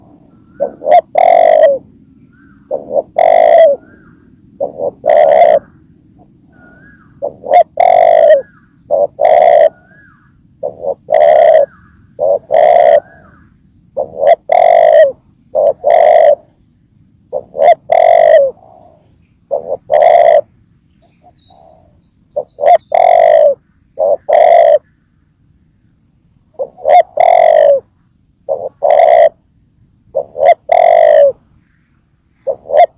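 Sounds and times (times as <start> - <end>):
dove cooing: 0.0 - 16.7, 17.3 - 24.8, 26.5 - 29.4, 30.0 - 31.5, 32.3 - 32.9.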